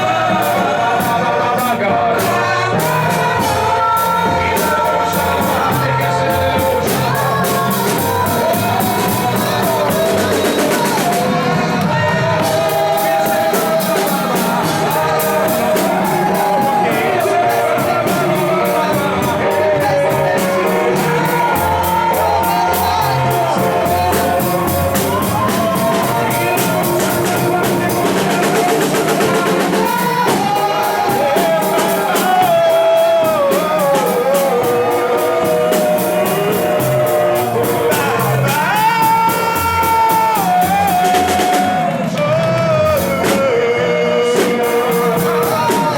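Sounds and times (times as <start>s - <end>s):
drum kit beat: 0.0s - 45.9s
worship singing over a band: 0.0s - 45.9s.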